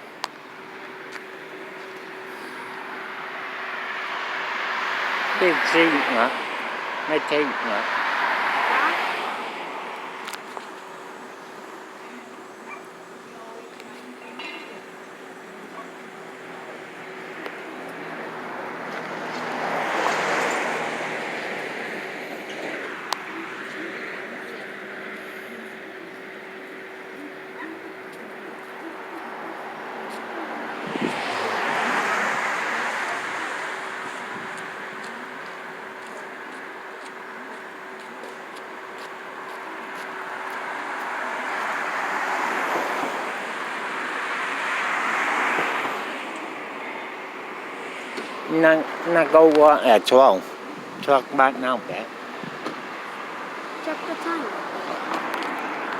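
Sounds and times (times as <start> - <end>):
vehicle passing by: 0.5 - 12.9, 15.2 - 55.9.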